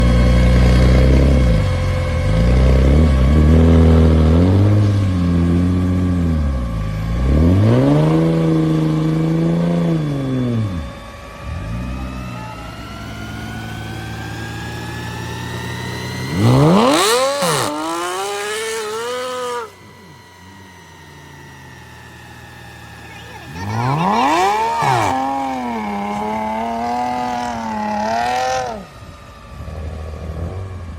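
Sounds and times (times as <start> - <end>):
faint whine rising in pitch: 0.0 - 30.9
vehicle engine revving: 0.0 - 30.9.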